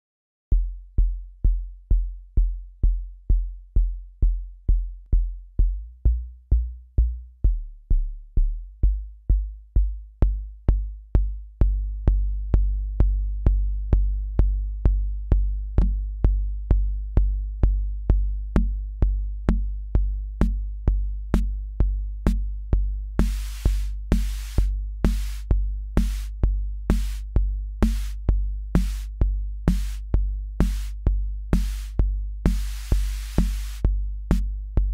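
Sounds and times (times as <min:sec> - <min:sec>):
drum machine kick drum: 0:00.5 - 0:34.9
low pulsing bass synth: 0:00.5 - 0:34.9.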